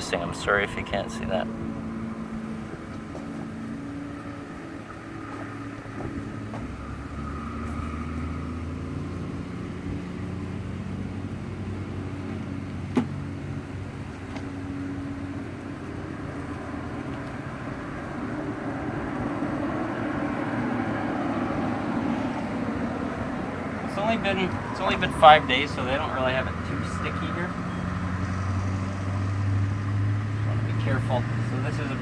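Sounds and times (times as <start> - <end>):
low drone: 0.0 - 32.0.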